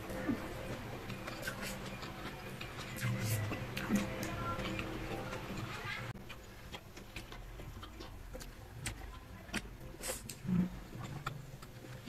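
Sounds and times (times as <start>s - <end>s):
person chewing with wet smacks: 0.1s - 12.0s.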